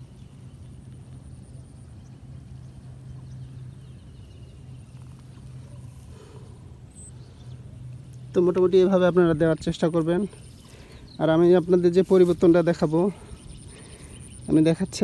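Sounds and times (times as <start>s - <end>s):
faint outdoor background: 0.0s - 15.0s
steady low motor hum: 0.0s - 15.0s.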